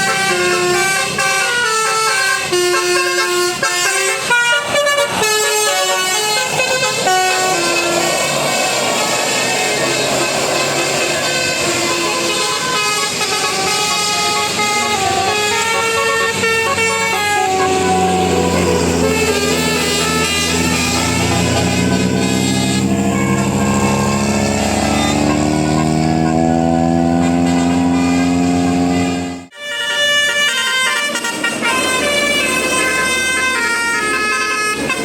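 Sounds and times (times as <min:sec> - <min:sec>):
musical air horns melody: 0:00.0 - 0:35.0.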